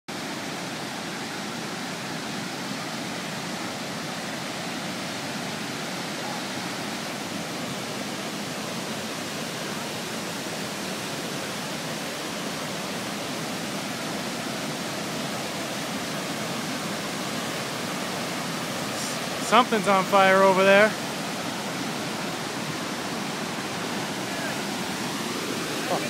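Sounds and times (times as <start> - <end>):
river in flood roaring: 0.1 - 26.0.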